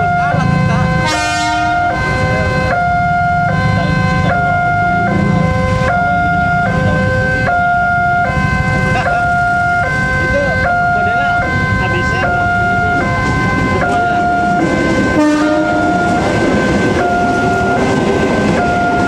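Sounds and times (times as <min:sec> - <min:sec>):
level crossing two-tone alarm: 0:00.0 - 0:19.0.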